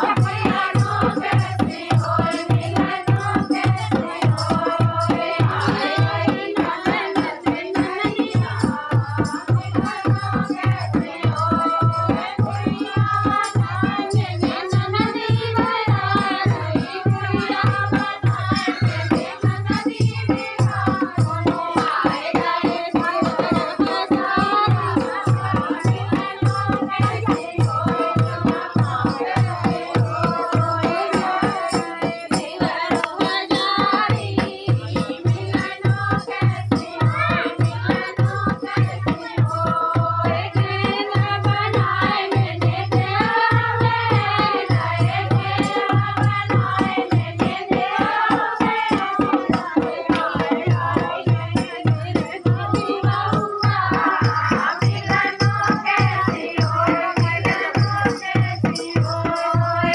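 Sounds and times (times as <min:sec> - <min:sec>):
fast hand-drum beat: 0:00.0 - 0:59.9
folk dance song singing: 0:00.0 - 0:59.9.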